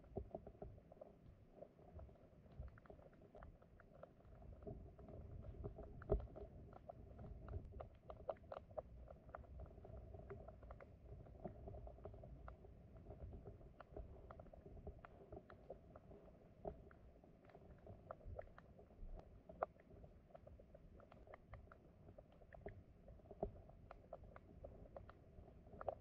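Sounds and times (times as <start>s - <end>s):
small underwater clicks and ticks: 0.0s - 26.0s
underwater stream rumble: 0.0s - 26.0s.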